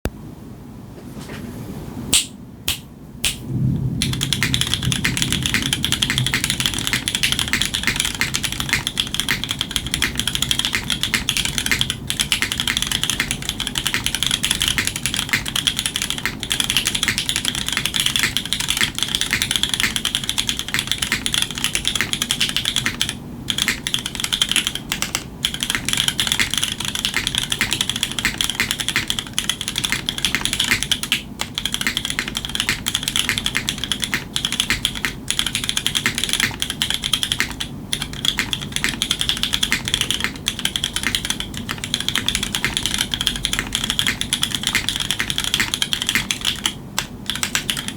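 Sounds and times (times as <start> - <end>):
fast mechanical keyboard typing: 4.0 - 47.9.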